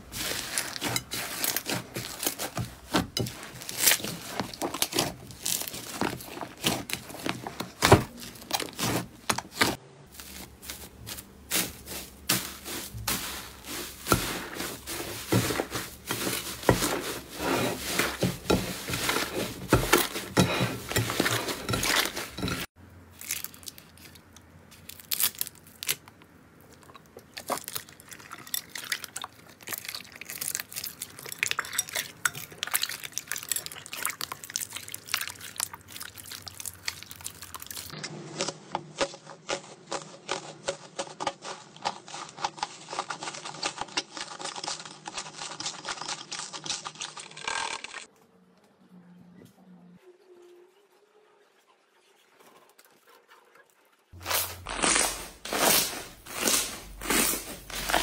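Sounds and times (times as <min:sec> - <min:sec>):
wet slime squelching: 0:00.0 - 0:26.0, 0:26.6 - 0:48.1, 0:54.2 - 0:58.0.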